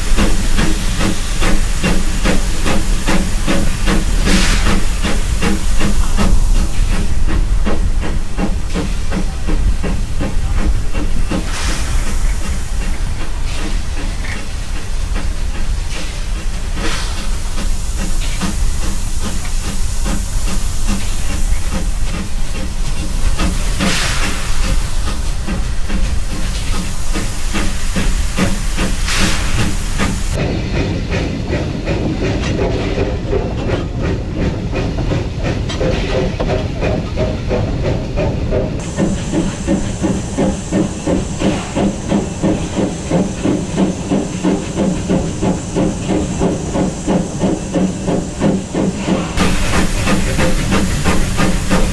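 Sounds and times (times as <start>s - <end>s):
steam hissing: 0.0s - 32.4s, 33.0s - 51.9s
steam locomotive chuffing: 0.0s - 51.9s.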